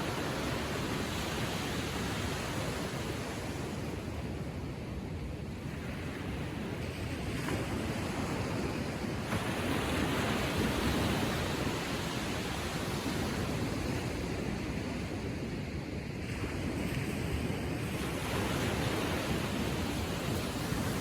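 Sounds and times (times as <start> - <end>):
small waves lapping on shore: 0.0 - 21.0.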